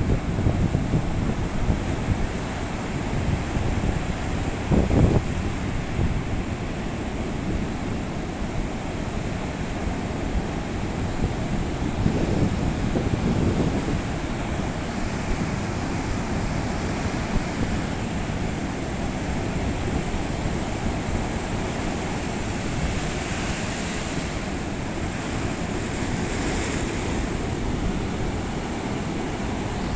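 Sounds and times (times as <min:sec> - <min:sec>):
waves breaking on shore: 0:00.0 - 0:29.9.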